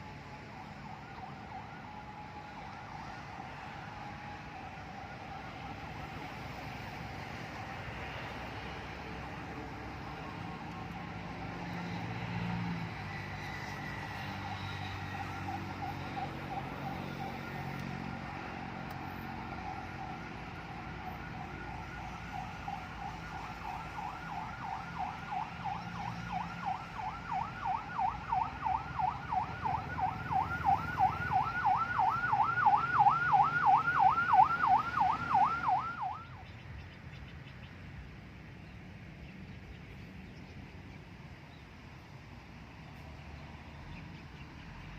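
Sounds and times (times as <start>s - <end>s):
yelp siren wailing: 0.0s - 36.4s
low rumble of traffic: 0.0s - 44.9s.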